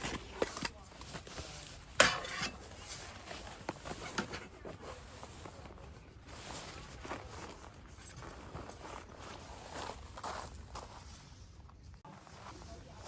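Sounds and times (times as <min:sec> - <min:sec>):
rustling: 0:00.0 - 0:11.5.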